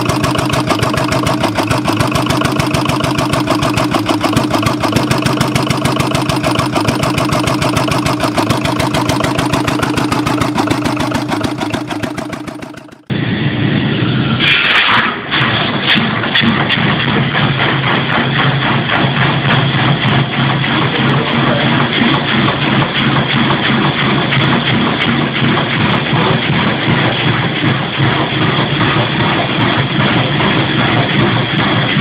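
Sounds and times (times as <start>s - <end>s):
old engine running: 0.0s - 13.1s, 16.4s - 32.0s.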